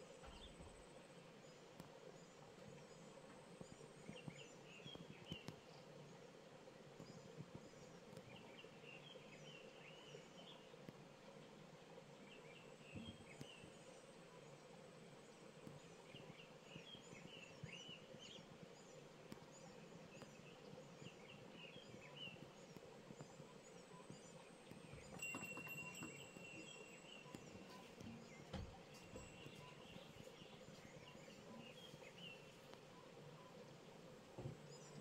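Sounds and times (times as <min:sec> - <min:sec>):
low steady hum: 0:00.0 - 0:35.0
small birds chirping: 0:00.0 - 0:35.0.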